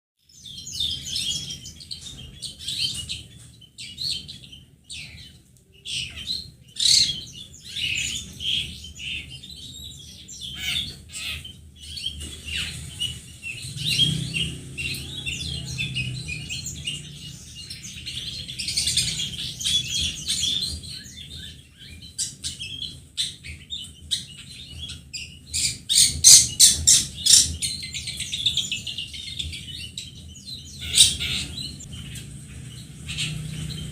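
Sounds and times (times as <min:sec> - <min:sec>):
shrike singing chattering song: 0:03.8 - 0:33.9.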